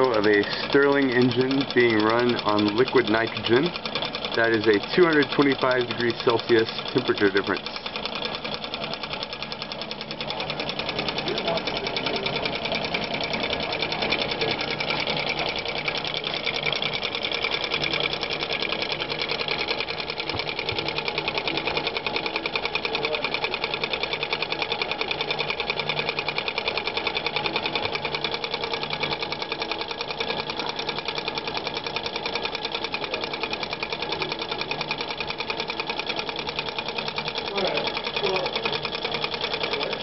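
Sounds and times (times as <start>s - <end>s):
small engine ticking clatter: 0.0s - 40.0s.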